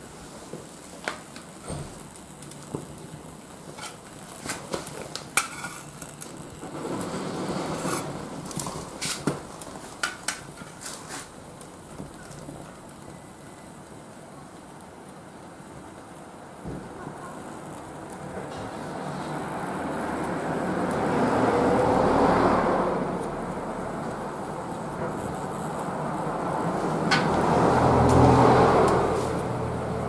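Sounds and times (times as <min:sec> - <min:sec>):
charcoal crackling and popping: 0:00.0 - 0:30.0
rush of flame: 0:00.0 - 0:30.0.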